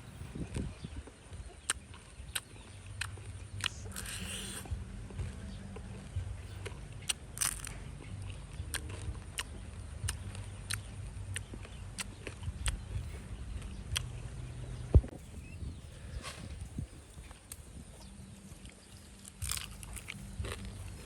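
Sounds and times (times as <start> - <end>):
crunchy chewing: 0.0 - 21.0
low hum: 0.0 - 21.0.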